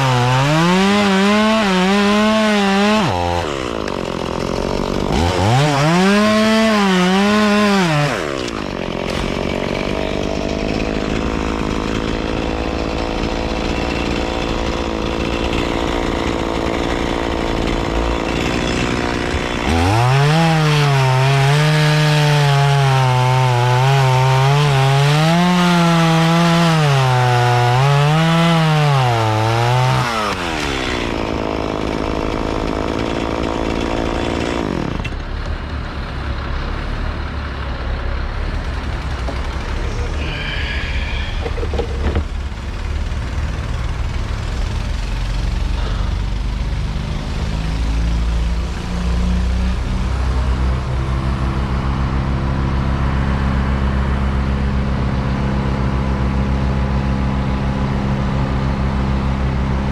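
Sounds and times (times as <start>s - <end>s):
chainsaw cutting logs: 0.0s - 35.7s, 38.5s - 59.9s.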